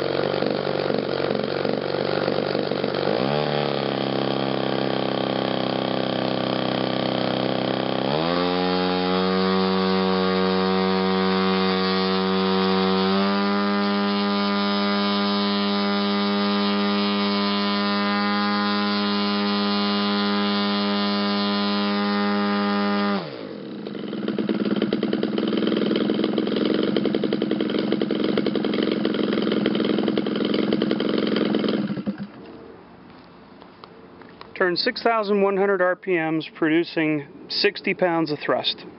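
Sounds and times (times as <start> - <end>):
two-stroke engine driving propeller: 0.0 - 32.4.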